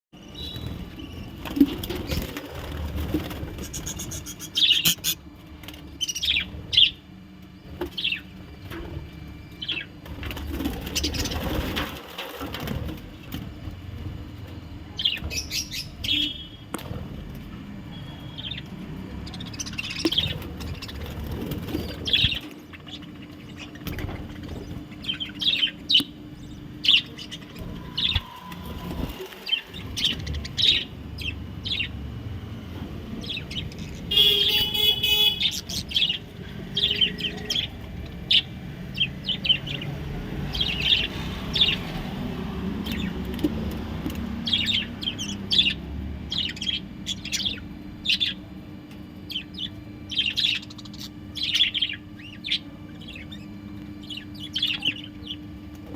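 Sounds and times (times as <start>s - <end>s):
budgerigars chirping and warbling: 0.2s - 7.0s, 7.6s - 8.8s, 9.5s - 13.0s, 14.9s - 16.6s, 17.9s - 32.0s, 33.2s - 48.5s, 49.3s - 55.9s.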